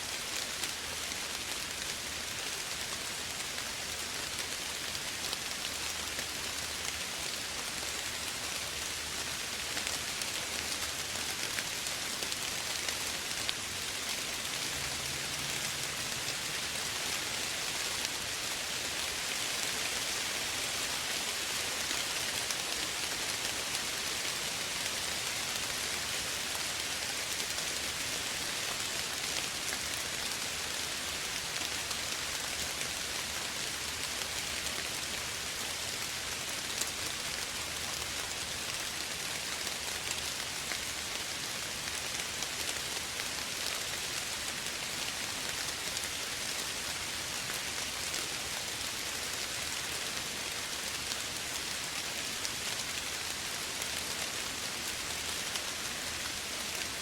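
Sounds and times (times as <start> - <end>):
soft rain pattering: 0.0 - 57.0.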